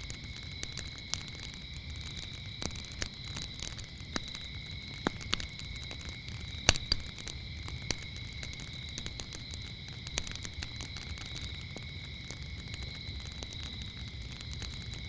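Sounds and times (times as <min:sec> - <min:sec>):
crickets chirping: 0:00.0 - 0:15.0
wood fire crackling and popping: 0:00.0 - 0:15.0.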